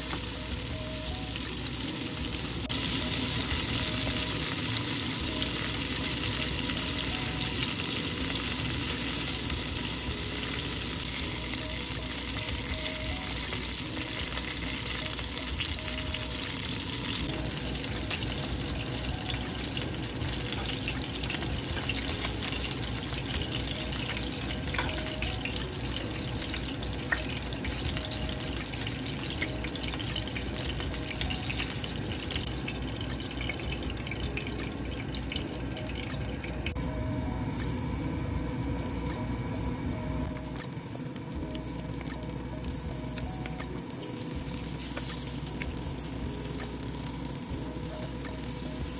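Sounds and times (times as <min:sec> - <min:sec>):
chicken frying in oil: 0:00.0 - 0:38.0, 0:40.2 - 0:48.9.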